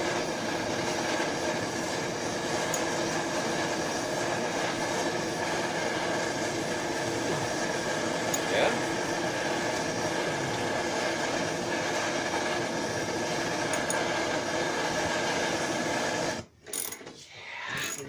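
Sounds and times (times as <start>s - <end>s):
torch burning: 0.0s - 16.6s.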